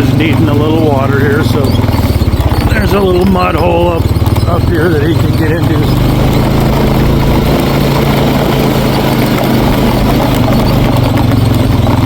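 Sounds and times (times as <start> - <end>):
atv engine humming: 0.0 - 12.0.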